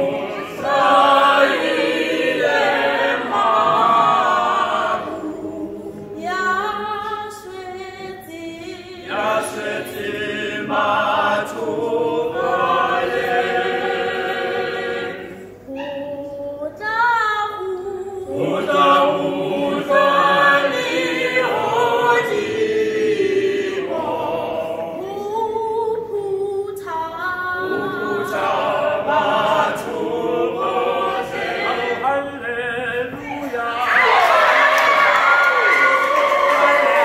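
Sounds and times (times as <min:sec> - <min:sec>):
teenagers singing a cappella: 0:00.0 - 0:37.0.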